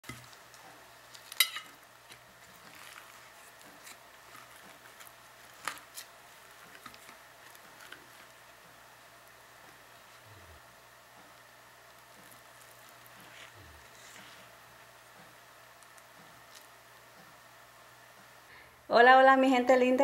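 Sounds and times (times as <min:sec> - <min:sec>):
corn husk crackling and rustling: 0:00.0 - 0:17.7.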